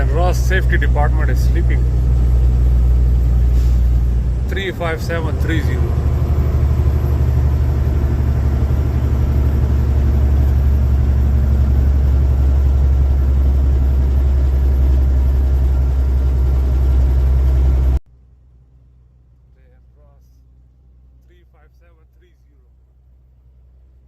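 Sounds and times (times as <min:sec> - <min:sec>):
road noise inside cab: 0:00.0 - 0:24.0
vehicle engine drone: 0:00.0 - 0:24.0.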